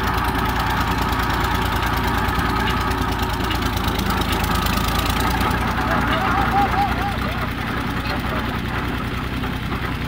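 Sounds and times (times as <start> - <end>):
construction machinery engine running: 0.0 - 10.0.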